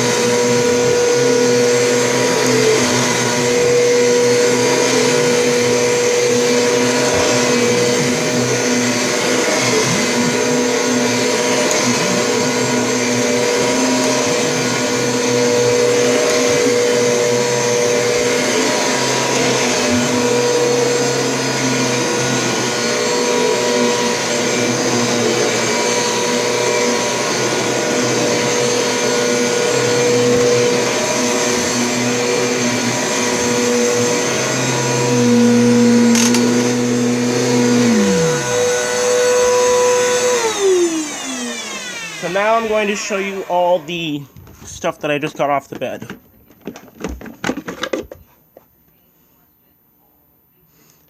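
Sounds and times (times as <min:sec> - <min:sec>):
vacuum cleaner running: 0:00.0 - 0:45.6.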